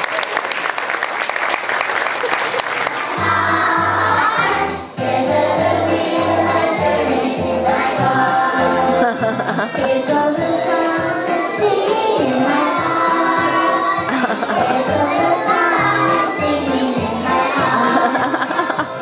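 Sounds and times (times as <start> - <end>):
children singing: 2.9 - 19.0.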